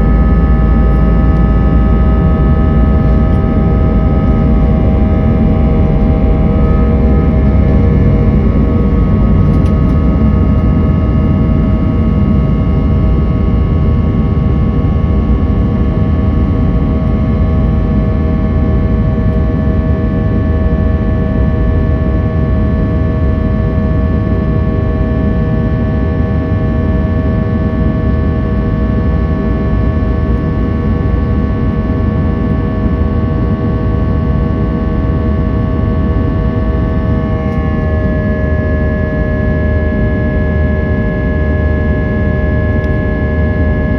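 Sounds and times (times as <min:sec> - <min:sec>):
jet engines rumbling and whining: 0:00.0 - 0:43.9.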